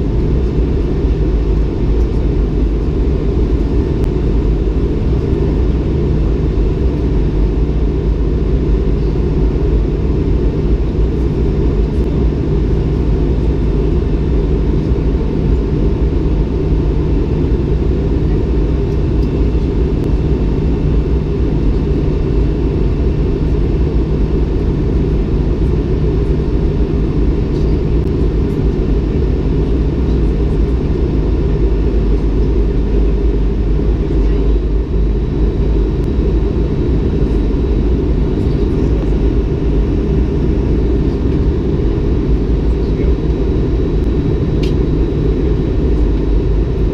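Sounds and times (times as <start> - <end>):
airliner cabin engine rumble: 0.0 - 46.9
faint steady whine: 0.0 - 46.9.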